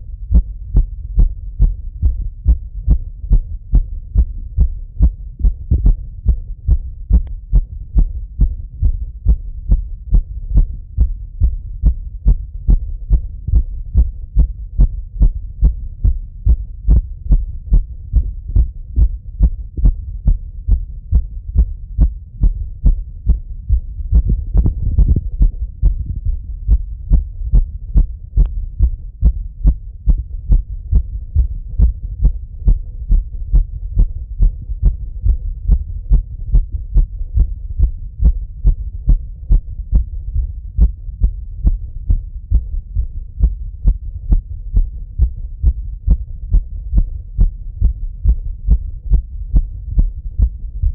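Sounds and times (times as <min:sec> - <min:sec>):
fast heartbeat thumps: 0:00.0 - 0:50.9.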